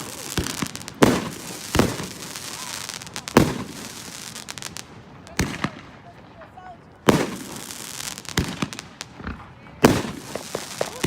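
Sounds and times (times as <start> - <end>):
fireworks banging: 0.0 - 11.0
fireworks crackling: 0.0 - 11.0.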